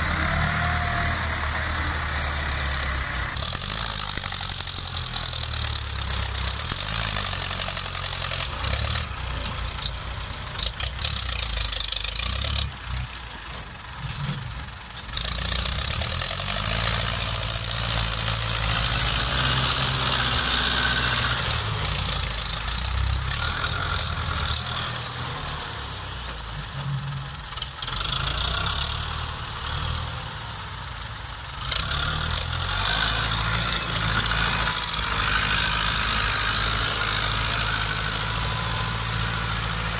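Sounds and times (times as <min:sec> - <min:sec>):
tractor diesel engines revving: 0:00.0 - 0:39.9.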